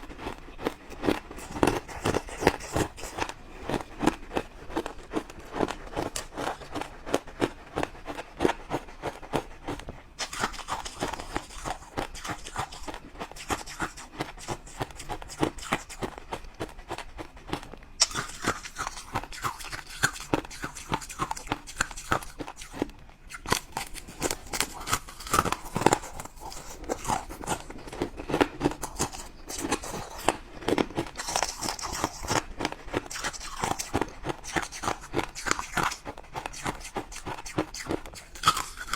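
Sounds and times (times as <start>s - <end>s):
person chewing crunchy ice: 0.0s - 38.9s.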